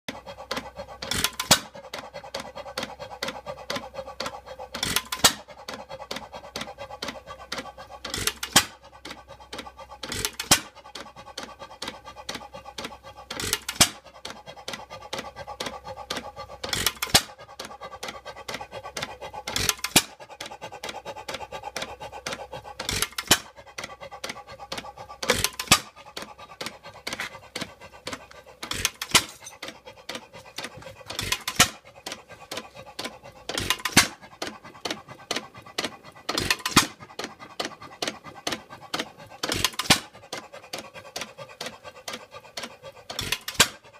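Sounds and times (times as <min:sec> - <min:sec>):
valve gear clatter: 0:00.1 - 0:43.9.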